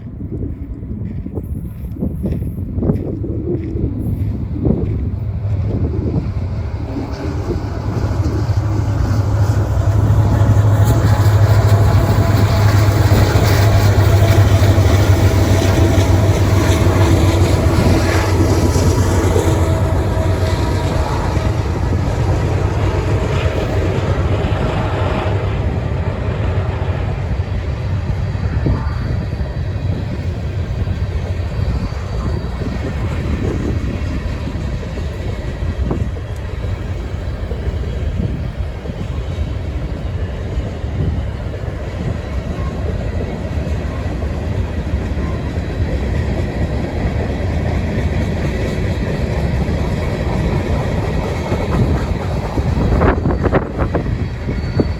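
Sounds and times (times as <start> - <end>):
diesel locomotive engine drone: 0.0 - 54.9
freight cars rumbling over rails: 2.6 - 54.9.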